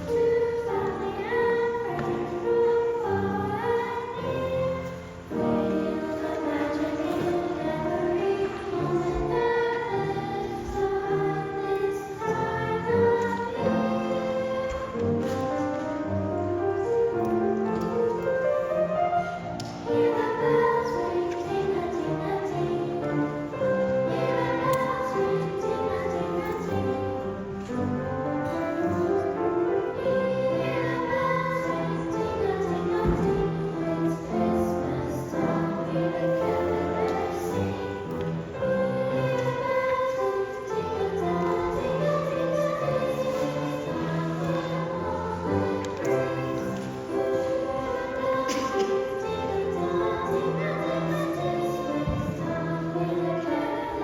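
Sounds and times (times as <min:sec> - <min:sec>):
girls' choir singing: 0:00.0 - 0:54.0.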